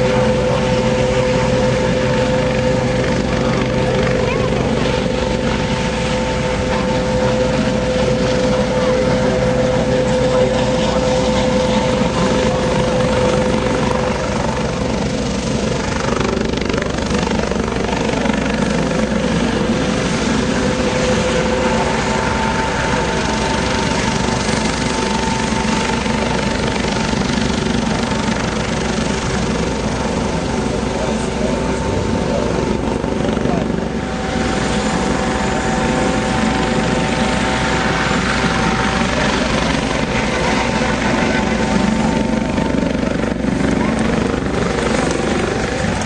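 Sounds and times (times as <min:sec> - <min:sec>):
helicopter rotor and turbines: 0:00.0 - 0:46.0
helicopter whine: 0:00.0 - 0:46.0.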